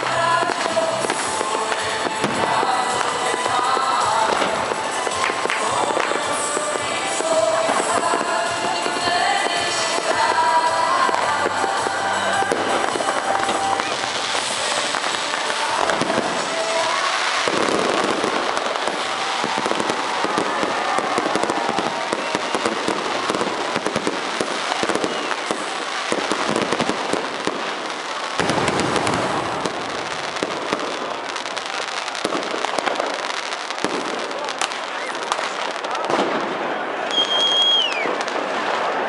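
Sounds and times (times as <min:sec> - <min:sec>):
deep fireworks booms: 0:00.0 - 0:39.0
fireworks bangs and crackling: 0:00.0 - 0:39.0.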